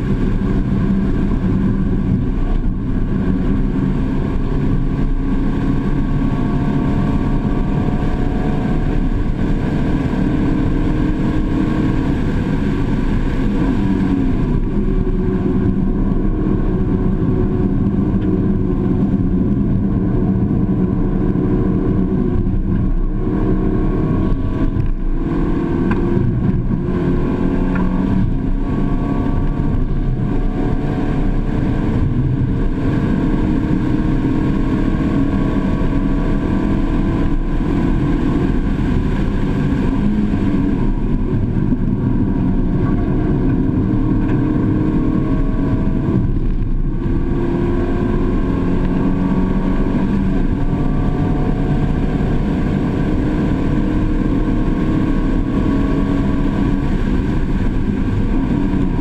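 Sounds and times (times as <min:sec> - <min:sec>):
car engine revving high: 0:00.0 - 0:59.0
wind noise: 0:00.0 - 0:59.0.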